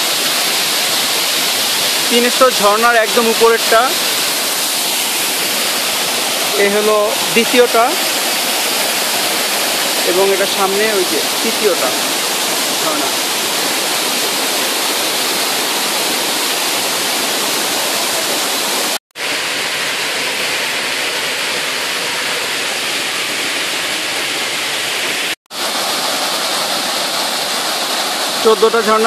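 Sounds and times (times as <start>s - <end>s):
waterfall rushing over rocks: 0.0s - 29.0s.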